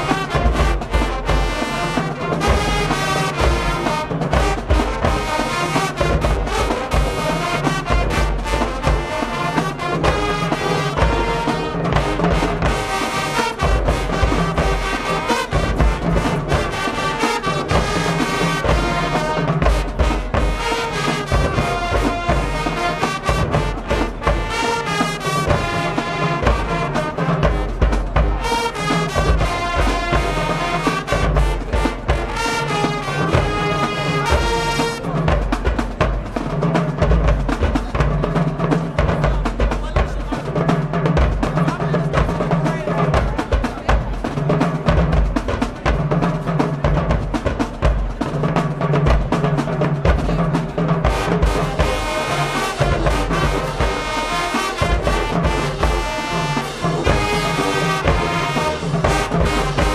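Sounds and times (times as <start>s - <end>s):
marching band playing: 0.0s - 59.9s
steady drum beats: 0.0s - 59.9s
trombones and trumpets: 0.0s - 59.9s.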